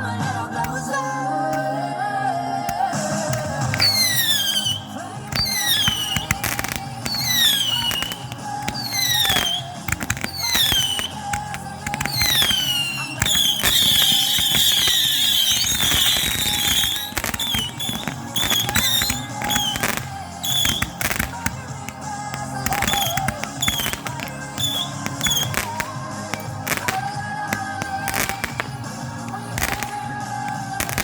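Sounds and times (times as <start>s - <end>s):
fireworks falling whistles: 0.0s - 1.9s, 2.7s - 31.0s
fireworks bangs and crackling: 0.0s - 2.0s, 2.6s - 31.0s
music: 0.0s - 31.0s
dense whistling hiss: 2.7s - 31.0s.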